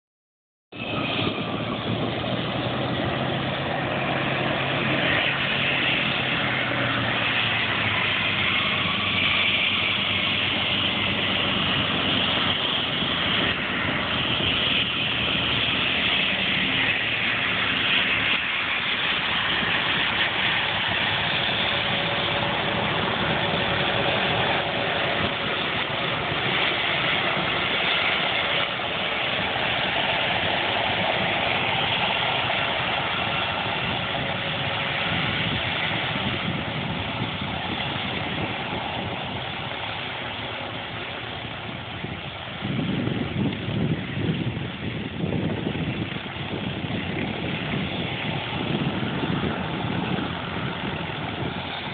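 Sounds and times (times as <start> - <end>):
jet engines hissing: 0.7 - 51.9
low engine drone: 0.7 - 51.9.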